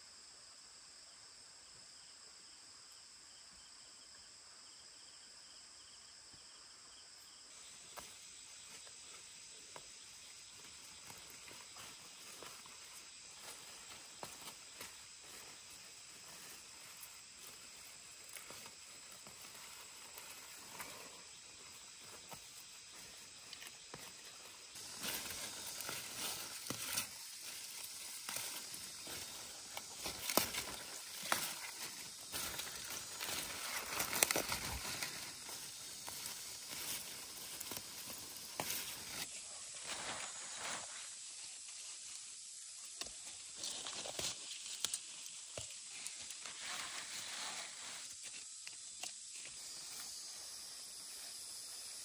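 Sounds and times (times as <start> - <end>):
faint steady hiss: 0.0 - 52.0.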